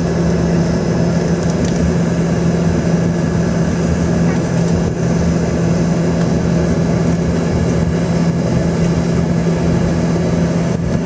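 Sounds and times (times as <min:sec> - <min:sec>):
jet engines humming in cabin: 0:00.0 - 0:11.0.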